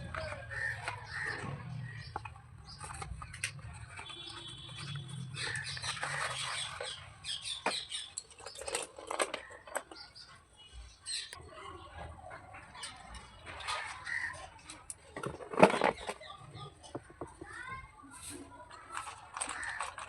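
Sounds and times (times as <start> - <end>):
slate pencils clicking and scraping: 0.0 - 11.4, 12.5 - 20.0.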